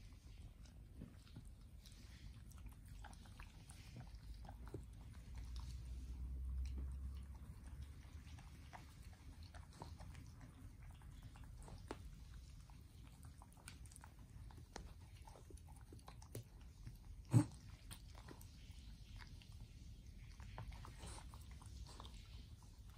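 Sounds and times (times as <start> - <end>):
dogs licking and lip-smacking: 0.0 - 22.9.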